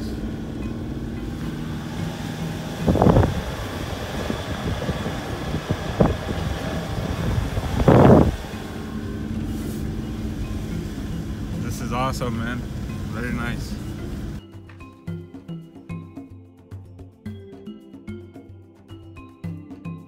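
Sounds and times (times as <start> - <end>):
vehicle engine humming: 0.0 - 16.1.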